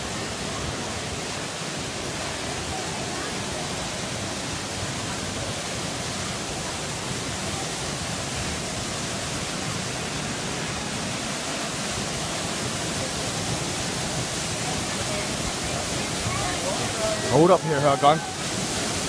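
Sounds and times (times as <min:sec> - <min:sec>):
waterfall pouring onto rocks: 0:00.0 - 0:19.0.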